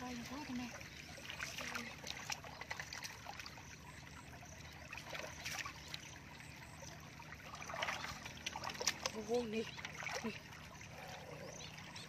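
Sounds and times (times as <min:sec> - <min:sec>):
muddy water sloshing: 0:00.0 - 0:12.0
small splashes: 0:00.0 - 0:12.0.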